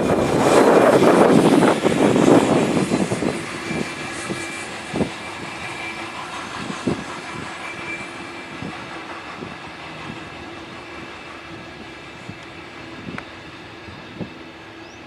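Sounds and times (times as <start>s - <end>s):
freight train wagons rolling: 0.0s - 15.0s.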